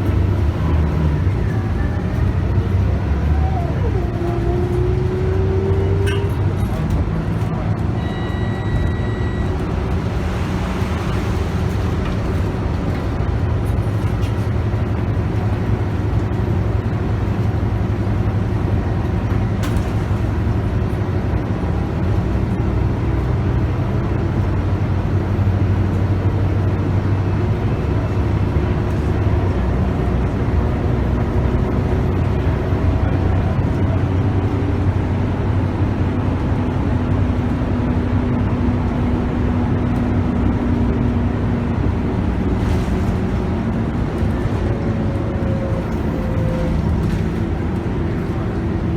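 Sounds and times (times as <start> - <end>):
bus diesel engine running: 0.0 - 48.9
road noise: 0.0 - 48.9.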